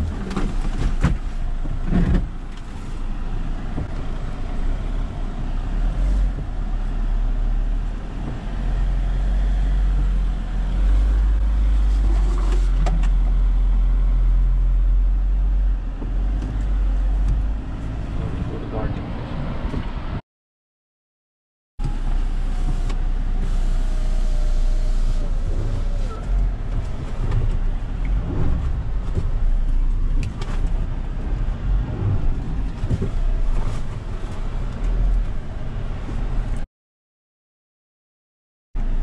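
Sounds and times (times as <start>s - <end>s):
engine and road rumble: 0.0s - 20.2s, 21.8s - 36.7s, 38.8s - 39.0s.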